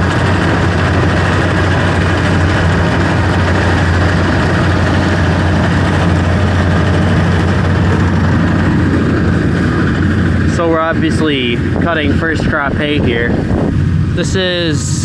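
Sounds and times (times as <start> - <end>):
tractor engine humming: 0.0 - 15.0.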